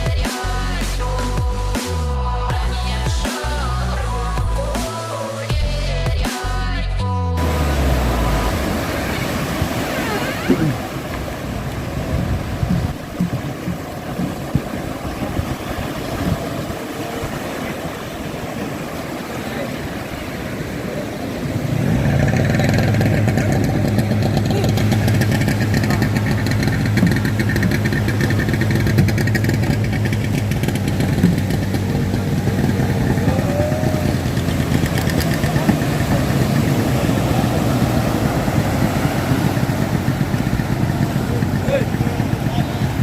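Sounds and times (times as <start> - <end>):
engine droning: 6.9 - 43.0.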